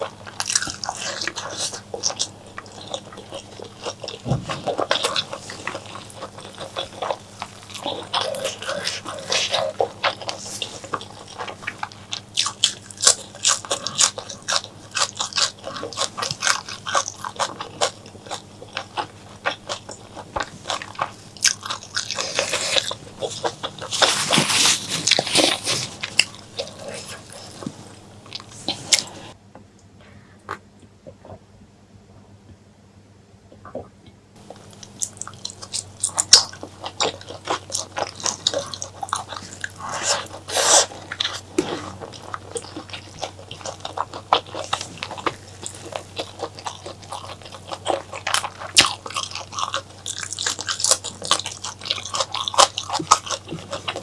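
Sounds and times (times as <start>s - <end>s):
close-miked eating and chewing: 0.0s - 29.4s, 34.4s - 54.0s.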